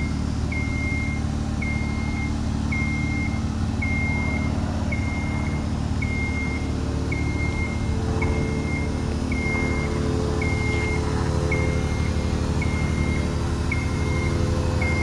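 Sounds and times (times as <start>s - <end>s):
motion alarm beeping: 0.0s - 15.0s
scissor lift engine running: 0.0s - 15.0s.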